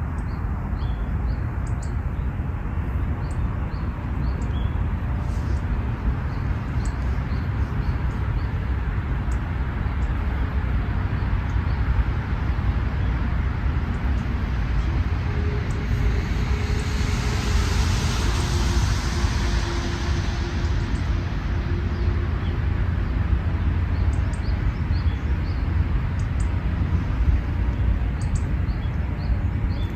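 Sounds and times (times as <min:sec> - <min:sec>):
road traffic rumble: 0:00.0 - 0:29.9
vehicle passing with hiss: 0:02.3 - 0:29.9.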